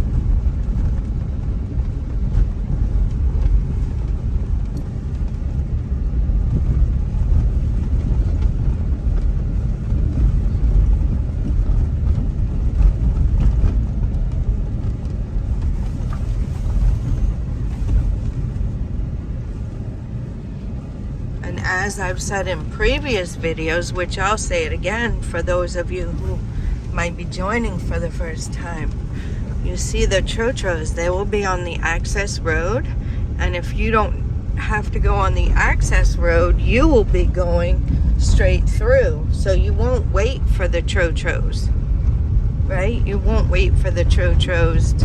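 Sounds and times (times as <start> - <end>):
car rumbling on bumpy road: 0.0 - 45.0.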